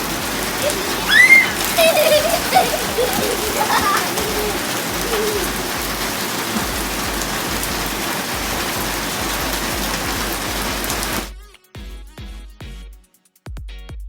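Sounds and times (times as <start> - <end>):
heavy rain falling: 0.0 - 11.3.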